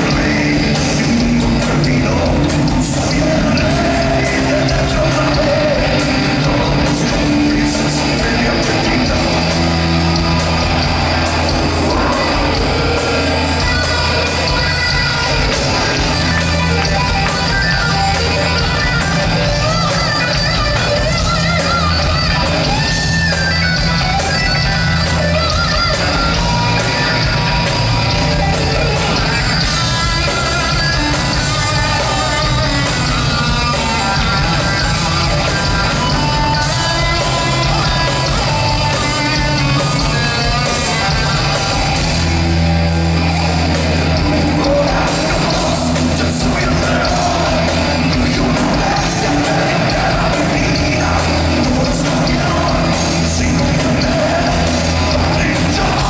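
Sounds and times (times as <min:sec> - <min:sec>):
live hard rock band: 0:00.0 - 0:56.0.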